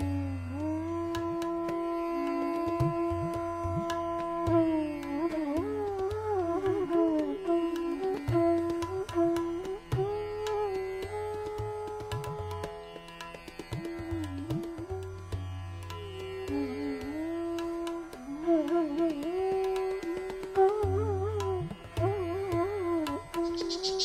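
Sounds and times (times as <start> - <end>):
bansuri flute melody: 0.0 - 24.0
tabla strokes: 0.0 - 24.0.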